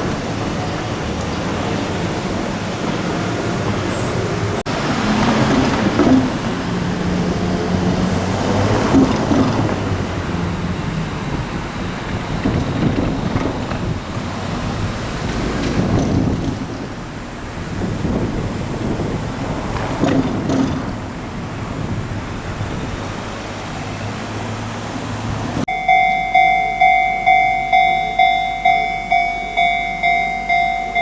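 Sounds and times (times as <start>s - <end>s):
road traffic: 0.0s - 31.0s
train rumble: 0.0s - 31.0s.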